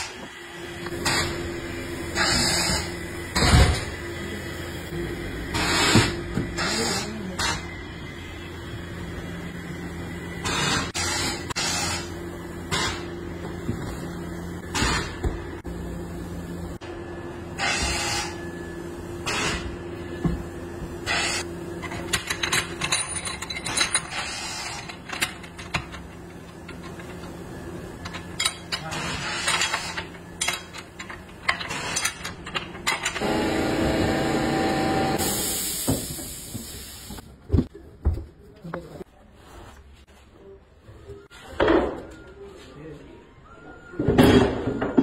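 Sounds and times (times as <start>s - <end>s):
workshop machinery hum: 0.0s - 45.0s.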